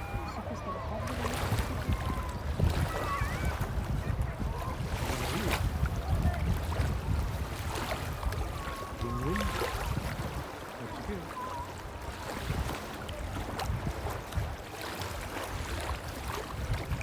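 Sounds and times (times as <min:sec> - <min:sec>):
waves washing: 0:00.0 - 0:17.0
wind: 0:00.0 - 0:17.0.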